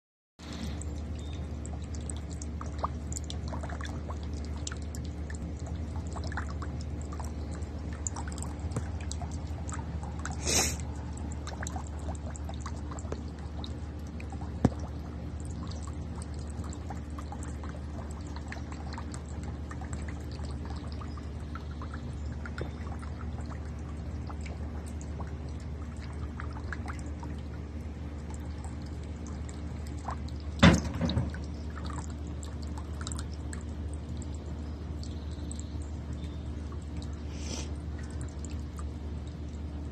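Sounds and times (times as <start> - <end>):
low steady hum: 0.4 - 39.9.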